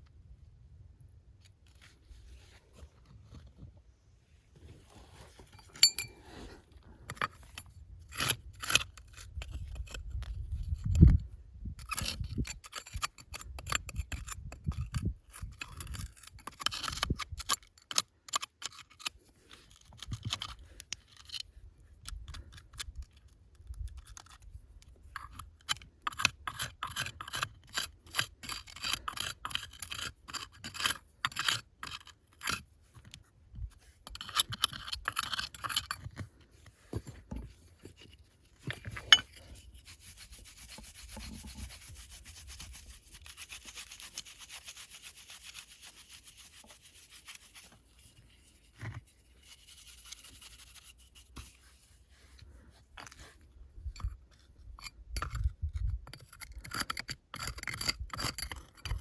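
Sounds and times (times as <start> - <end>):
hard objects clicking and scraping: 5.3 - 59.0.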